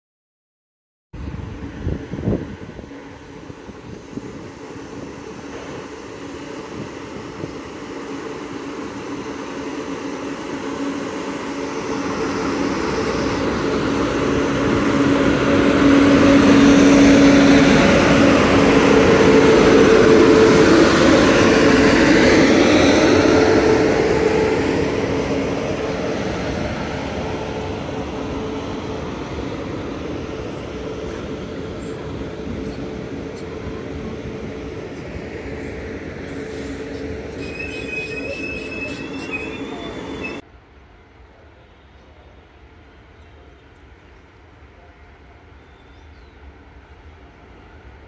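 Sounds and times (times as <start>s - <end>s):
train passing: 1.2s - 48.0s.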